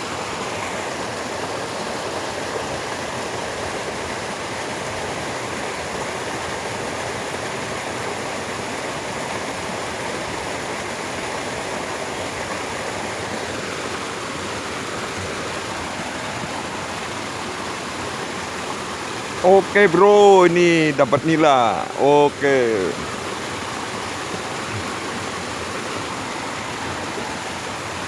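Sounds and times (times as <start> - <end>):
water rushing along a ditch: 0.0 - 28.0.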